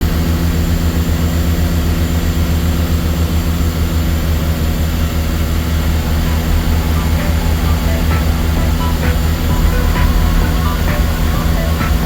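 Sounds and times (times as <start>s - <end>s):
turboprop engines droning: 0.1s - 12.0s.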